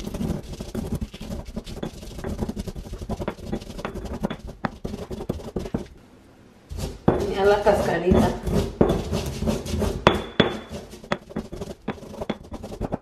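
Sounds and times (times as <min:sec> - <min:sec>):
stone pestle grinding in mortar: 0:00.0 - 0:06.0, 0:06.7 - 0:13.0.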